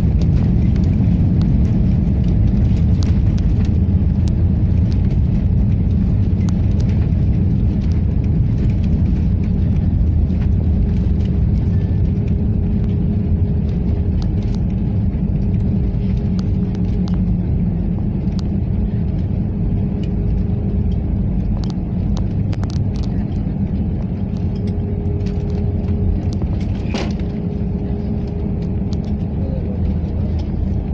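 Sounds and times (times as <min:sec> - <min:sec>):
airliner cabin rumble: 0:00.0 - 0:30.9.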